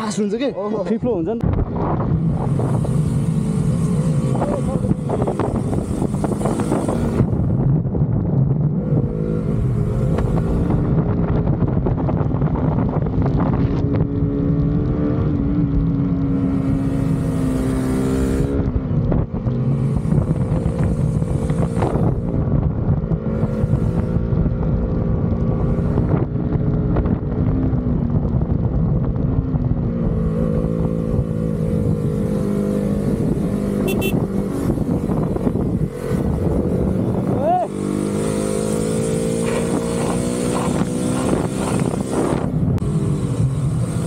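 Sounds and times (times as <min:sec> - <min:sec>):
wind noise on microphone: 0:01.0 - 0:44.0
motorcycle engine running: 0:01.5 - 0:44.0.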